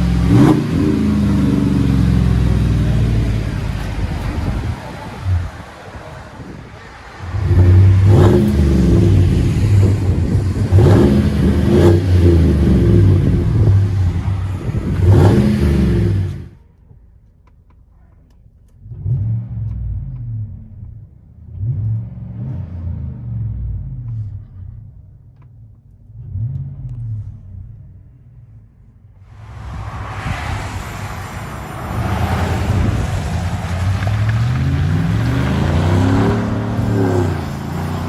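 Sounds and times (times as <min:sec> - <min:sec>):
car engine revving: 0:00.0 - 0:16.6, 0:18.8 - 0:25.0, 0:26.0 - 0:28.0, 0:29.3 - 0:38.0.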